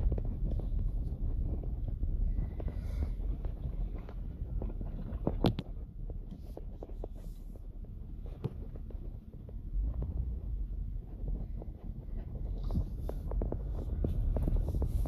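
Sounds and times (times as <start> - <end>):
vehicle low rumble: 0.0 - 15.0.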